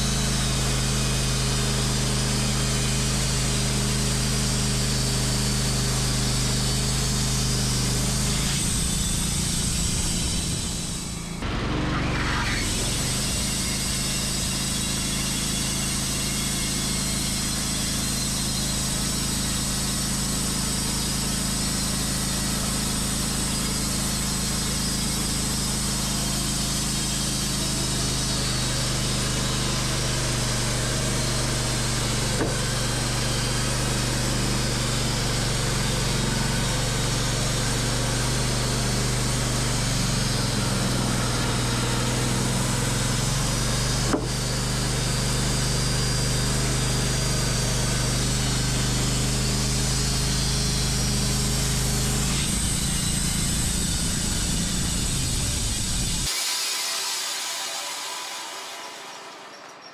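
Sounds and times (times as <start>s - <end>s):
saw blade hissing through wood: 0.0s - 59.9s
sawmill motor running: 0.0s - 59.9s.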